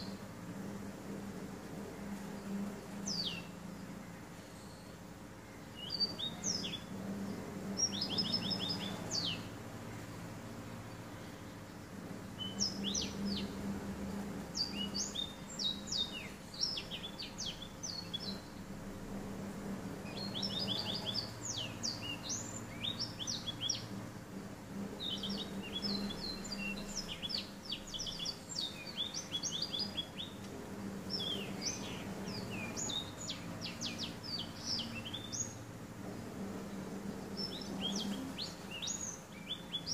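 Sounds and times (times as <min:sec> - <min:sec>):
canary singing trills: 0:02.4 - 0:09.8, 0:10.9 - 0:18.9, 0:20.0 - 0:24.0, 0:24.9 - 0:35.7, 0:37.2 - 0:39.9.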